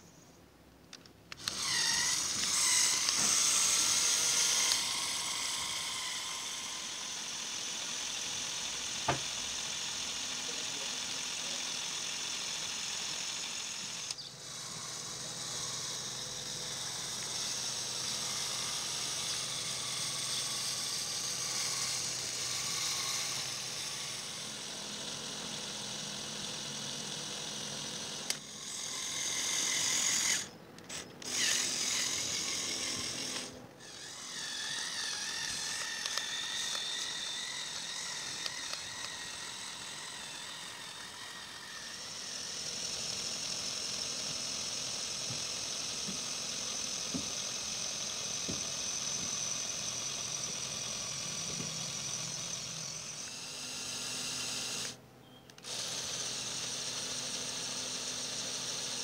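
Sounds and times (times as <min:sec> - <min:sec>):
toy electric motors whining: 0:00.9 - 0:59.0.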